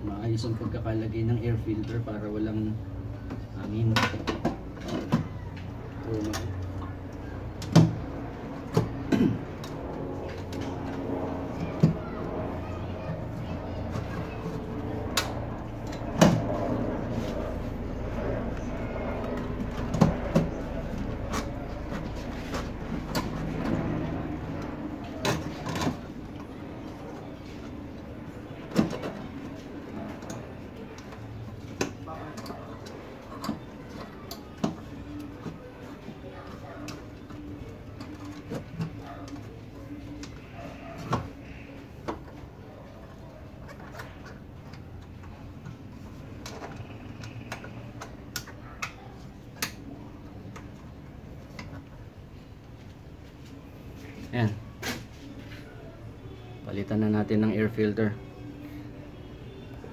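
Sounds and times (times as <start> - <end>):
steady low background hum: 0.0 - 59.9.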